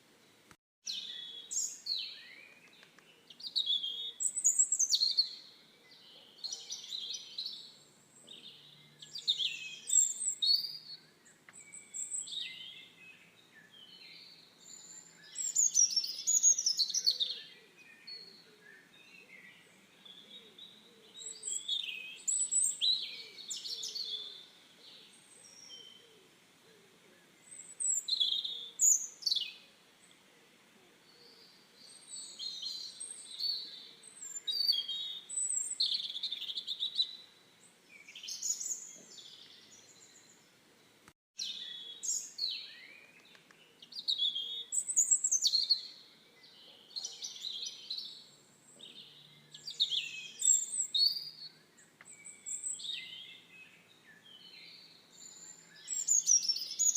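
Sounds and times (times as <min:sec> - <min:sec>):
songbirds singing and chirping: 0:00.0 - 0:56.9.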